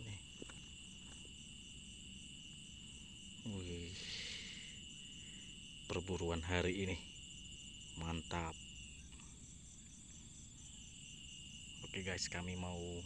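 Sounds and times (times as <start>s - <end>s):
crickets trilling: 0.0s - 13.0s
pulsing cricket chirp: 0.0s - 13.0s.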